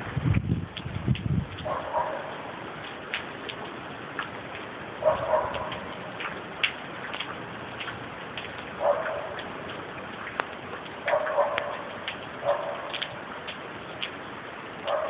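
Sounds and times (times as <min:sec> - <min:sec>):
light ticks: 0:02.3 - 0:15.0.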